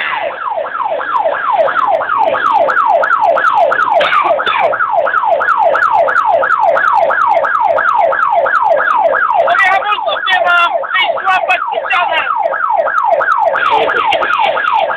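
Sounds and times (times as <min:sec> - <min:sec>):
second wavering siren: 0:00.0 - 0:14.9
siren yelping: 0:00.0 - 0:14.9.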